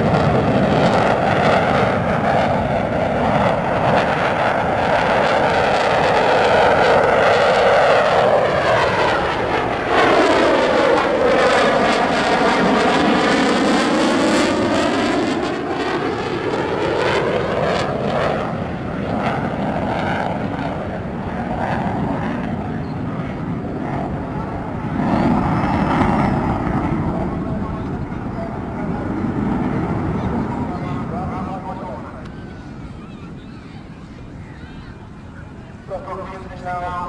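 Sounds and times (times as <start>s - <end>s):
fighter jet engines roaring past: 0.0s - 37.0s.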